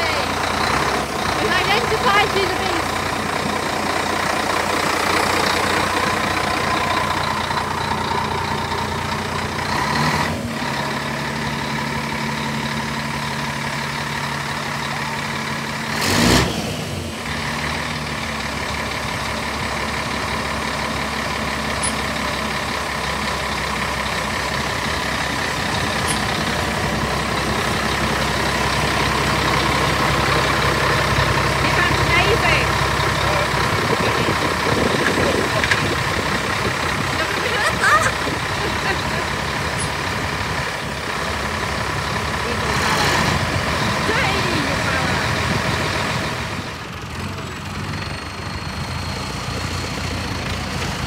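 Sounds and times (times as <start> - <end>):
lorry engine idling: 0.0 - 51.0.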